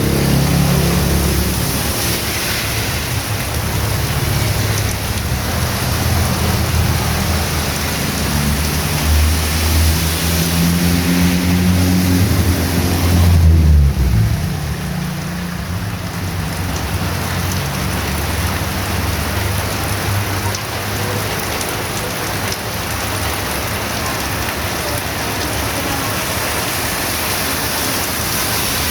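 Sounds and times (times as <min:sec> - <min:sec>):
heavy rain falling: 0:00.0 - 0:28.9
low traffic engine hum: 0:00.0 - 0:28.9.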